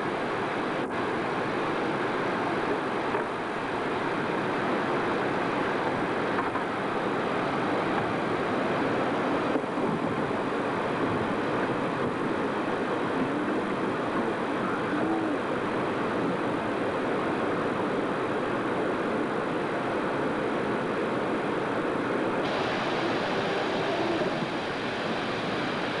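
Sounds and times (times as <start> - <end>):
rushing white water: 0.0 - 26.0.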